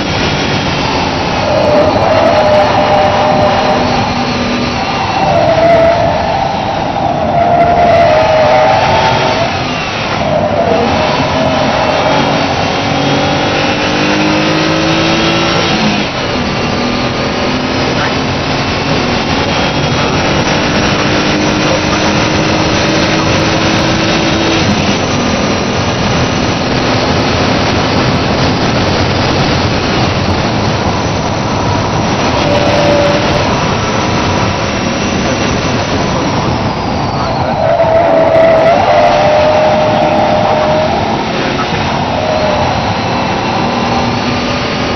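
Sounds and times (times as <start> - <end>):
car engine revving high: 0.0 - 44.9
wind and road noise: 0.0 - 44.9.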